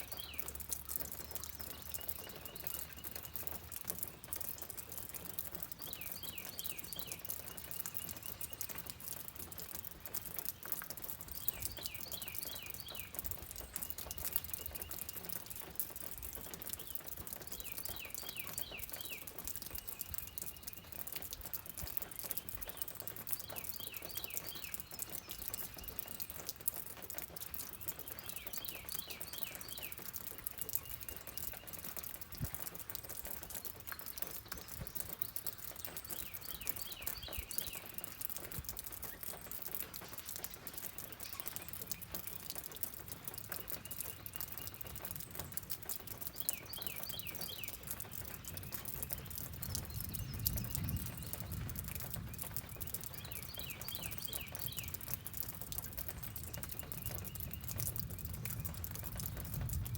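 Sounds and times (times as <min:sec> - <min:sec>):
bird singing: 0:00.0 - 0:04.7, 0:05.4 - 0:09.2, 0:10.7 - 0:21.3, 0:22.0 - 0:26.7, 0:27.6 - 0:42.8, 0:43.4 - 0:59.6
rain pattering: 0:00.0 - 0:59.9.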